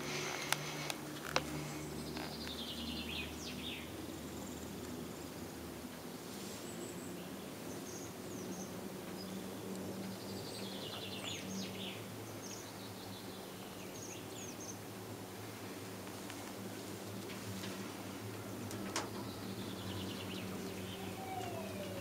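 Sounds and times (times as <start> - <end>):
cable car low hum: 0.0 - 22.0.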